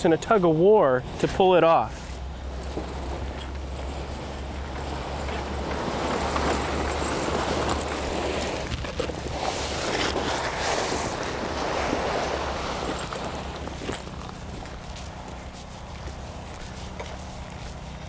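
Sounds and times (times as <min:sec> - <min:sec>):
tarp rustling and swishing: 0:01.9 - 0:18.0.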